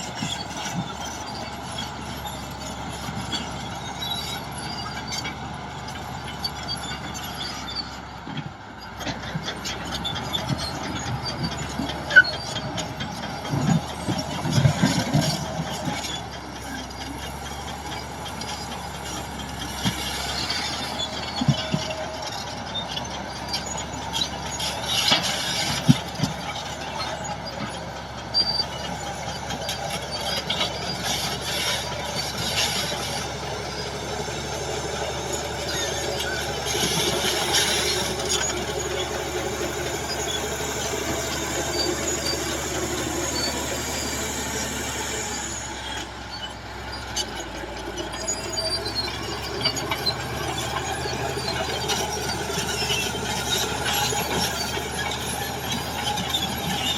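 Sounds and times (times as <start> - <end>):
diesel engine under load: 0.0 - 56.9
squealing steel tracks: 0.0 - 56.9.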